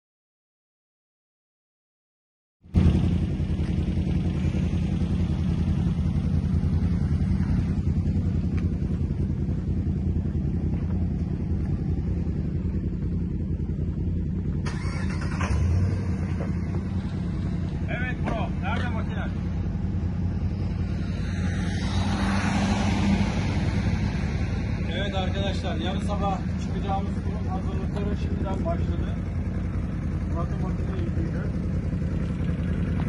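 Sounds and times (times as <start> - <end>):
vehicle engine running: 2.7 - 33.0.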